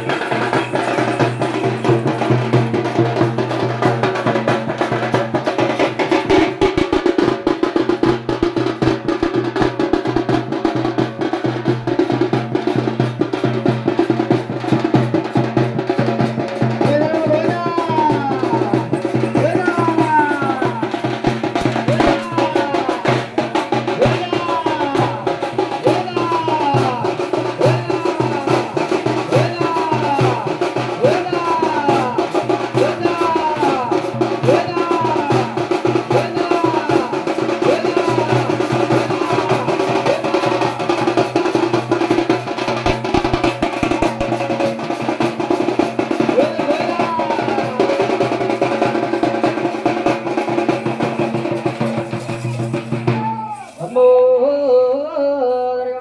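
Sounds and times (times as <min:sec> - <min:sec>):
fast dense drumming: 0:00.0 - 0:53.6.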